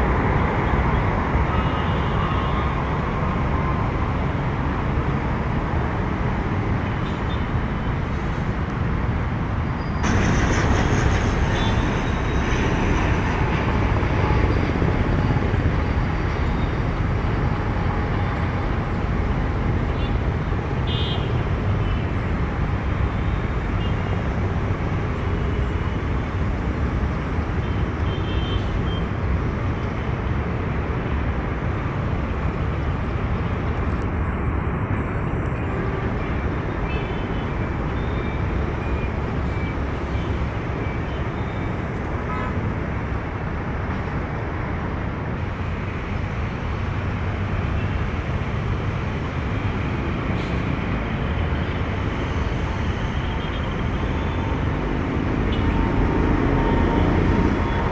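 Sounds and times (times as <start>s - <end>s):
distant traffic rumble: 0.0s - 57.9s.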